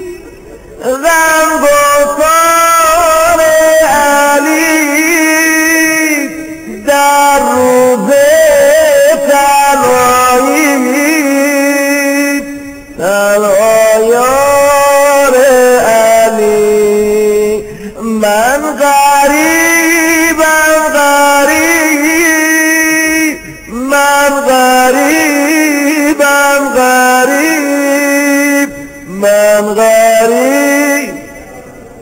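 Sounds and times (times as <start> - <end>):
man chanting devotional lament: 0.0 - 32.0.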